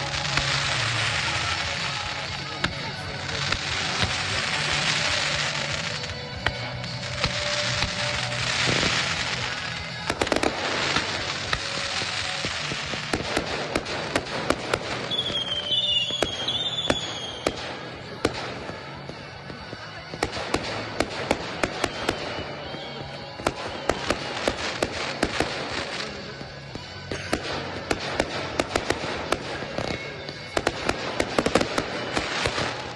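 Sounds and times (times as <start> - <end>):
firework whistling: 0.0 - 32.9
fireworks crackling and banging: 0.0 - 32.9.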